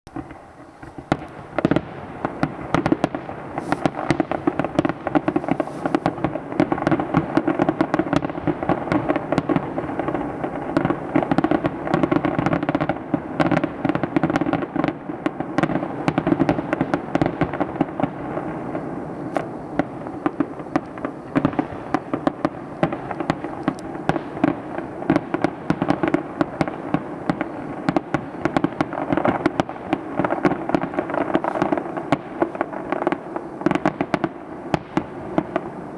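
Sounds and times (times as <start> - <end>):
firework bangs and crackling: 0.1 - 35.9.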